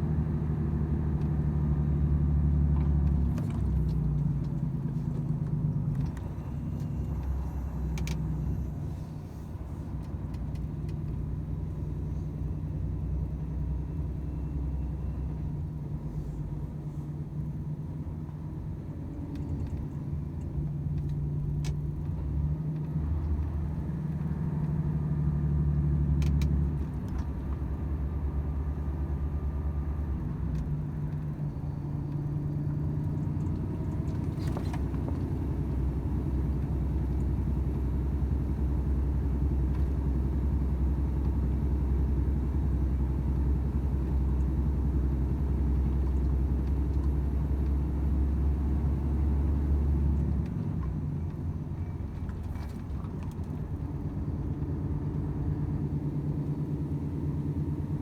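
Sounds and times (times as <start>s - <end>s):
diesel truck engine drone: 0.0s - 58.0s
road noise: 0.0s - 58.0s.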